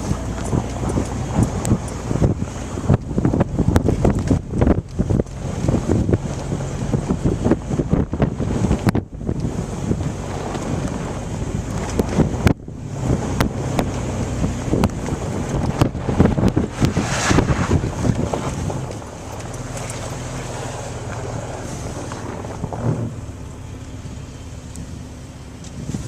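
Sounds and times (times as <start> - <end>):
vehicle engine driving through snow: 0.0 - 26.0
wind buffeting microphone: 0.0 - 26.0.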